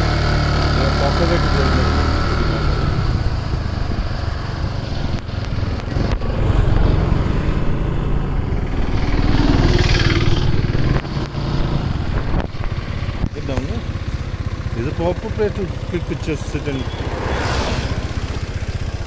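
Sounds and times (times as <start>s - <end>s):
motorcycle engine running: 0.0s - 19.0s
road and air noise: 0.0s - 19.0s.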